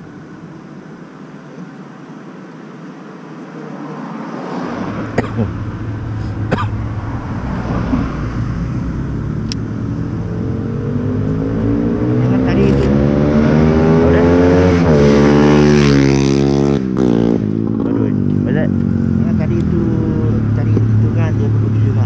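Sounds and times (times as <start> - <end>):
motor vehicle engine revving: 3.6 - 22.0.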